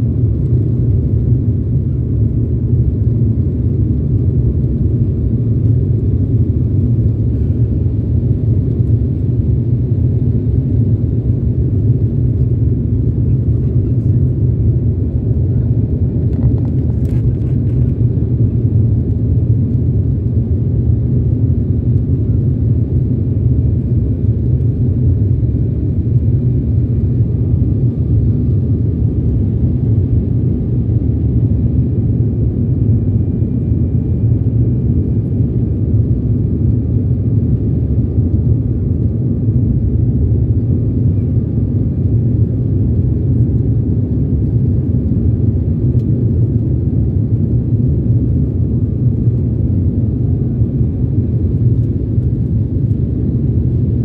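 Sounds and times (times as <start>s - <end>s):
jet engines in cabin: 0.0s - 54.0s.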